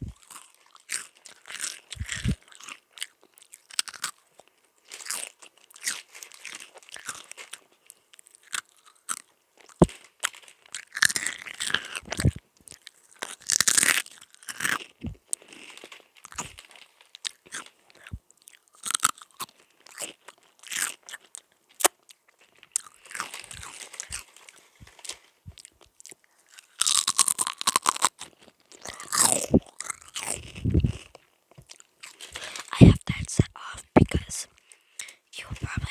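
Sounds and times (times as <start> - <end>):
person crunching crisps: 0.1 - 32.8, 33.5 - 35.9.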